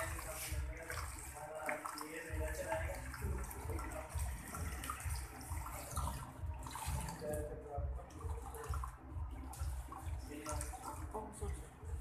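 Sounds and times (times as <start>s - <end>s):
water splashing into basin: 0.0s - 12.0s
water spraying onto hair: 0.0s - 12.0s.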